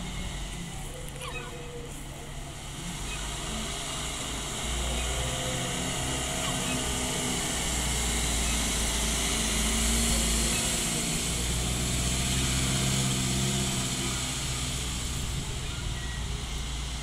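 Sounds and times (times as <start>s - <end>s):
minibus engine running: 0.0s - 17.0s.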